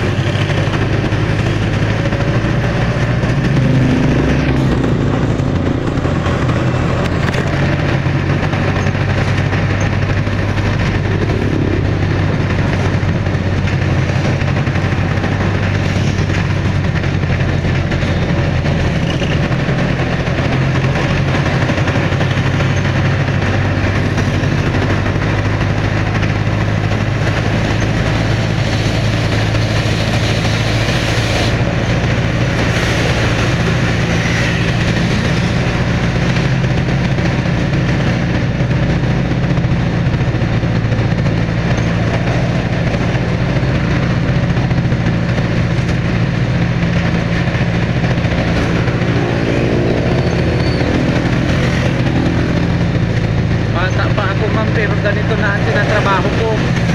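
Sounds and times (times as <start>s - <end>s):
engine droning: 0.0s - 56.9s
road and wind noise: 0.0s - 56.9s.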